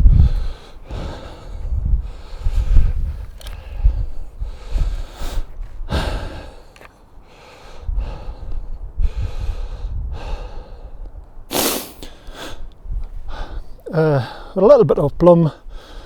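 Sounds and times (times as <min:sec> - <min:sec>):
man breathing heavily: 0:00.0 - 0:14.6, 0:15.6 - 0:16.0.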